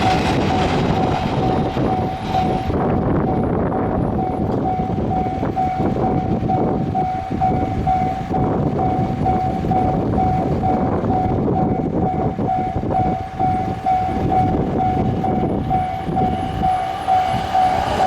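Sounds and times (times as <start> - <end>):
crossing warning bell ringing: 0.0 - 18.0
train wheels rumbling and clacking: 0.0 - 18.0.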